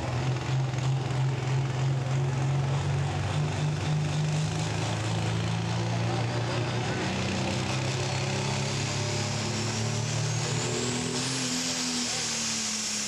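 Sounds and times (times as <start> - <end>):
diesel tractor engine under load: 0.0 - 13.0.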